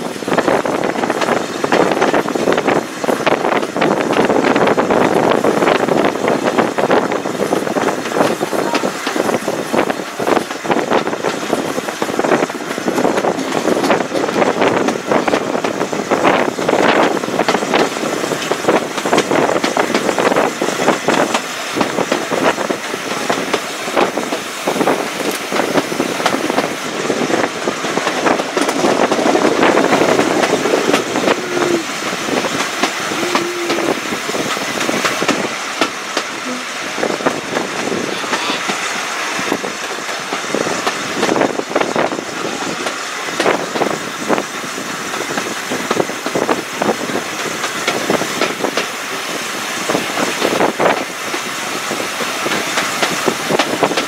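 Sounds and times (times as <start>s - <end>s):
train wheels knocking on rails: 0.0s - 54.0s.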